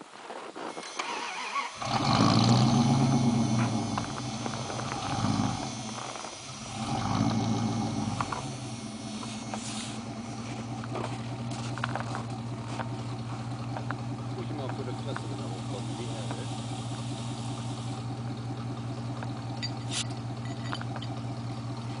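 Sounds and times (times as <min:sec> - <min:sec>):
engine starting and idling: 0:00.6 - 0:22.0.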